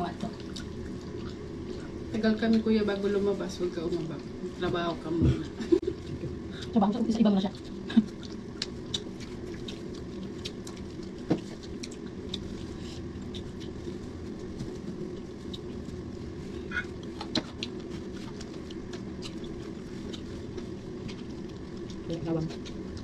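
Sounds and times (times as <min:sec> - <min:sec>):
steady low hum: 0:00.0 - 0:23.0
chewing and smacking: 0:00.1 - 0:02.7, 0:05.4 - 0:23.0.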